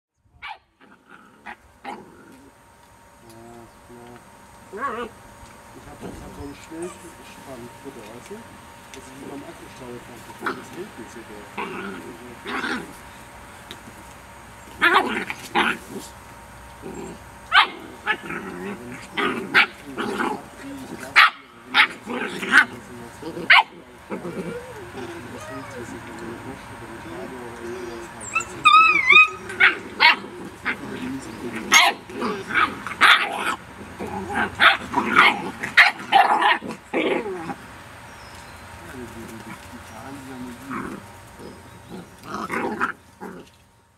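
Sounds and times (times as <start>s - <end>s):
puppies barking: 0.4s - 2.4s, 4.7s - 5.2s, 5.8s - 8.4s, 9.0s - 13.3s, 14.4s - 43.5s.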